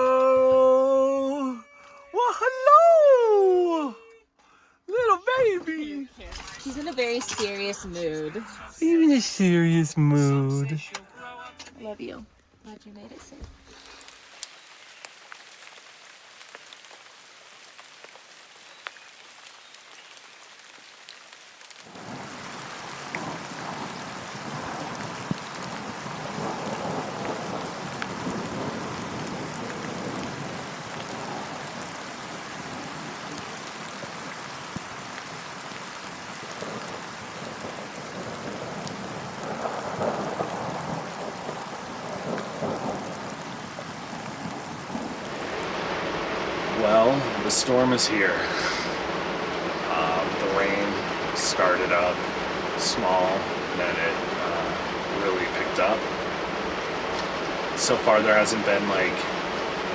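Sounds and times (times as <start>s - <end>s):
rain falling: 0.0s - 4.0s, 4.9s - 10.8s, 11.8s - 59.9s.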